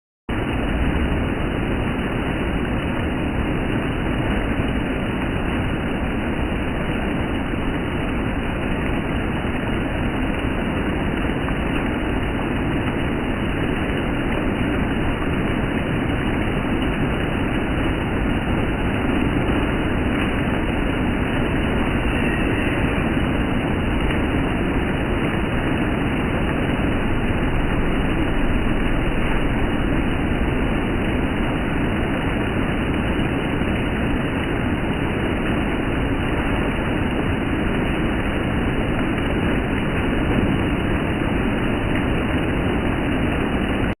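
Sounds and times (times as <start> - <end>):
steady rain falling: 0.3 - 44.0.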